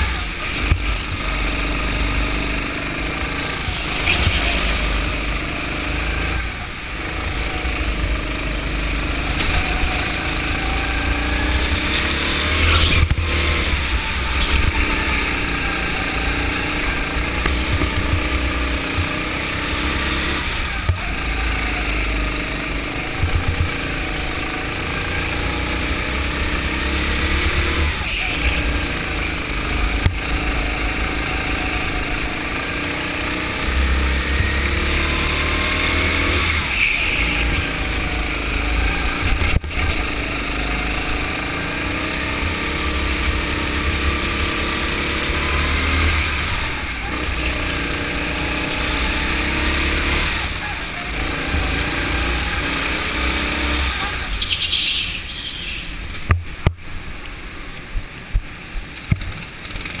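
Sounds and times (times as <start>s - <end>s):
go-kart engine revving: 0.0s - 56.7s, 57.3s - 60.0s.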